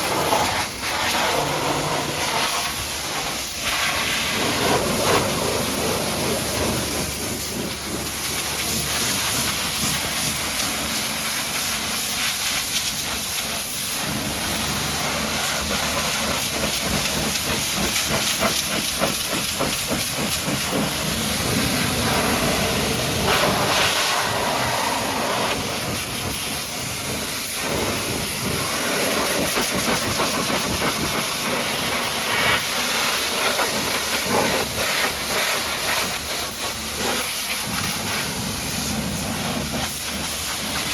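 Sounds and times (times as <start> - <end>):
pressure washer jet spraying: 0.0 - 40.9.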